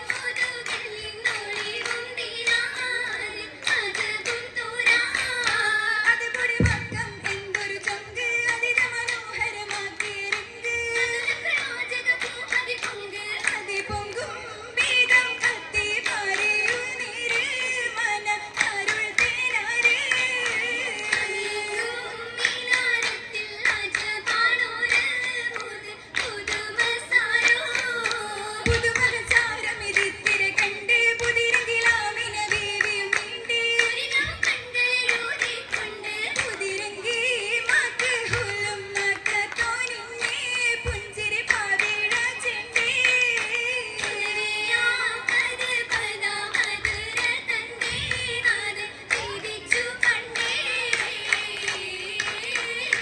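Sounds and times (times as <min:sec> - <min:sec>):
sharp hand claps: 0:00.0 - 0:53.0
group of voices singing: 0:06.6 - 0:53.0.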